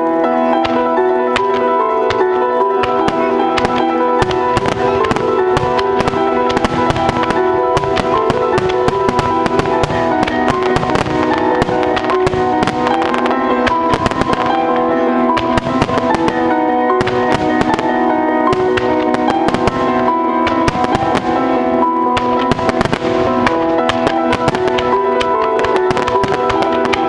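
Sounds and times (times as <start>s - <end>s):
music with sustained melodic tones: 0.0s - 27.0s
firework bursts and crackles: 0.6s - 27.0s.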